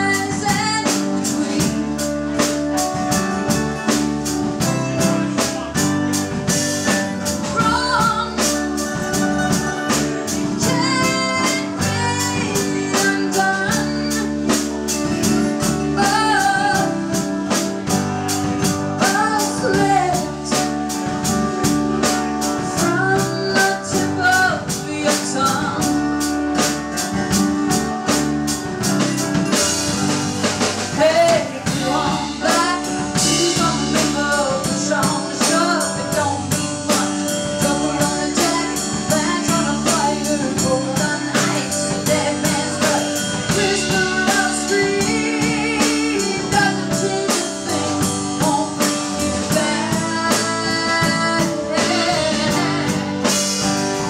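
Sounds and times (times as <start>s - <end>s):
woman singing: 0.0s - 27.5s, 30.8s - 54.0s
live blues-rock band: 0.0s - 54.0s.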